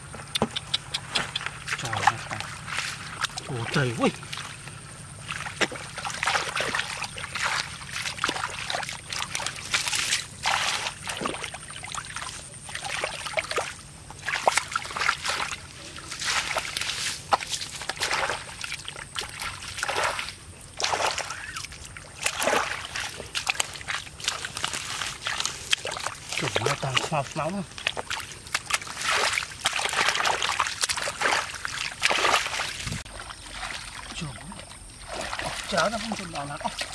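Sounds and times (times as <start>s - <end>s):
hands splashing in muddy water: 0.5s - 36.9s.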